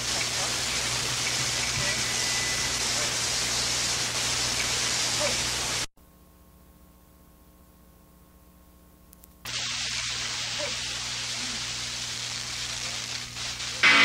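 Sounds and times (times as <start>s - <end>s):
faint electrical hum: 0.0s - 14.0s
recording hiss and hum: 0.0s - 14.0s.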